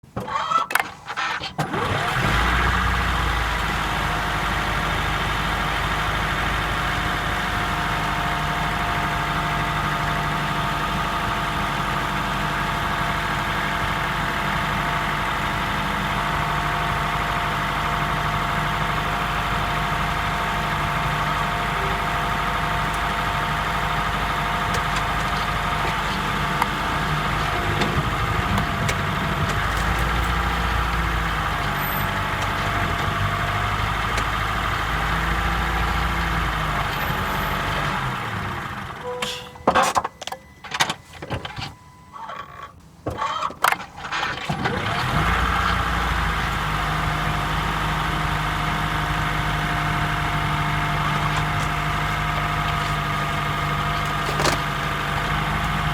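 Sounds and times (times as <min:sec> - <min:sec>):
car engine running steadily: 0:00.0 - 0:55.9.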